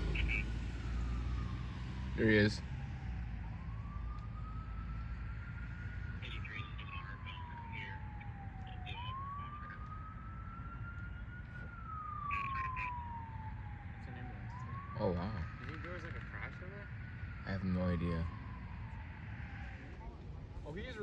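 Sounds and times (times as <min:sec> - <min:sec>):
siren wailing: 0:00.0 - 0:21.0.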